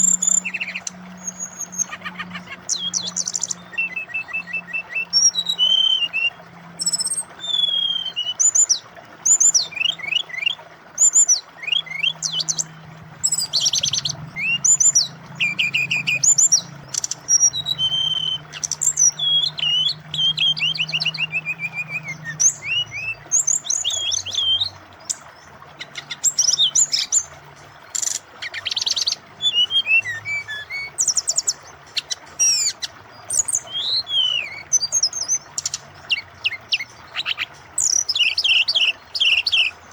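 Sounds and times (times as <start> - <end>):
bird singing rapid trills: 0.0 - 39.9
running water: 0.0 - 39.9.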